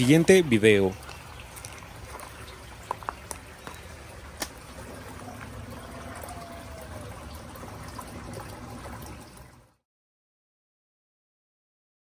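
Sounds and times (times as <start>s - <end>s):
water trickling in pond: 0.0s - 9.8s.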